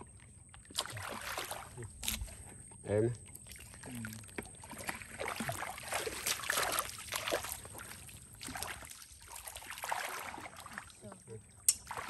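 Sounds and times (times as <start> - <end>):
feet wading through shallow water: 0.0 - 12.0.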